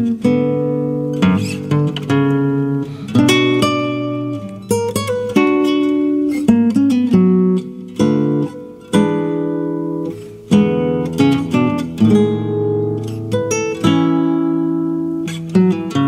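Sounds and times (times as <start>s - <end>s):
solo classical guitar: 0.0s - 16.0s.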